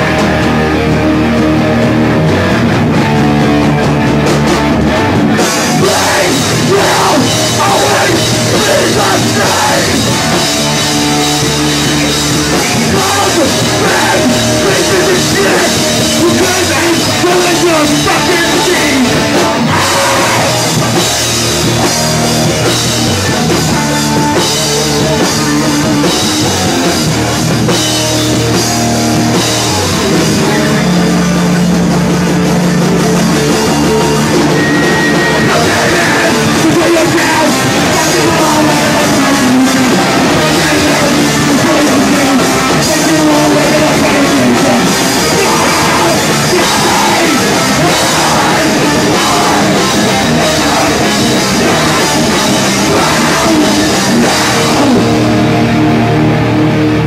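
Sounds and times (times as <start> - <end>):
punk band playing live: 0.0 - 57.0.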